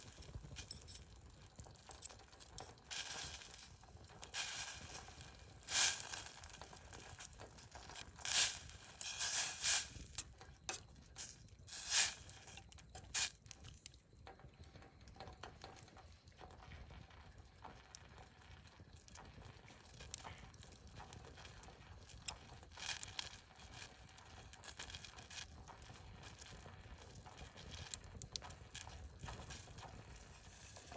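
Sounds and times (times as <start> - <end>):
loud pops from fire: 0.0 - 13.7, 18.9 - 30.9
wood fire crackling: 0.0 - 30.9.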